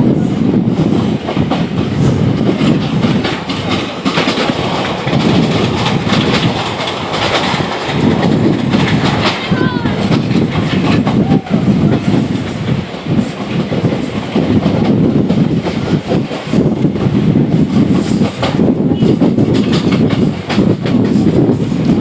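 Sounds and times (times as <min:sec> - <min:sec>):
clickety-clack of rail joints: 0:00.0 - 0:22.0
train wheels rumbling on track: 0:00.0 - 0:22.0.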